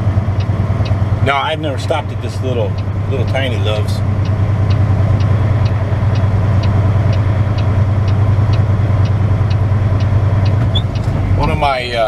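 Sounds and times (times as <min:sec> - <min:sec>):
truck diesel engine running: 0:00.0 - 0:12.0
turn signal clicking: 0:00.0 - 0:12.0.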